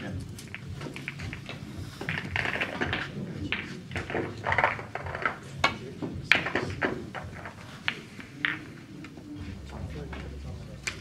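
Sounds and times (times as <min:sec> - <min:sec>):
snooker balls clicking: 0:00.0 - 0:09.4, 0:10.1 - 0:11.0.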